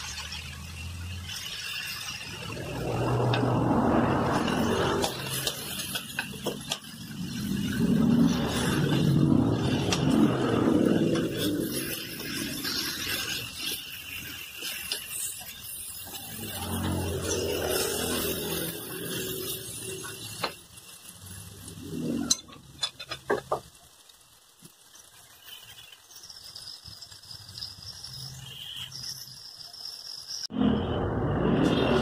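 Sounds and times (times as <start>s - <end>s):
utensils clicking and scraping wok: 0.0s - 30.5s
food sizzling in a wok: 0.0s - 32.0s.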